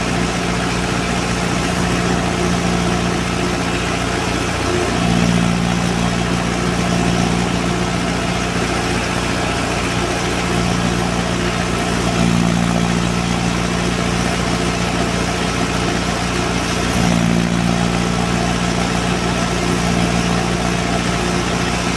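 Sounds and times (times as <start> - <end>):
threshing drum running: 0.0 - 21.9
tractor engine running: 0.0 - 21.9.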